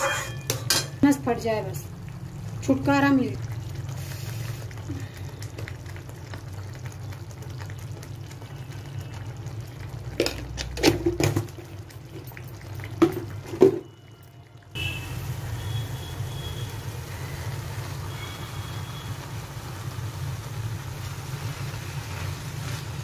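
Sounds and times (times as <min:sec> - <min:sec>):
sauce simmering and sizzling: 0:01.0 - 0:23.0.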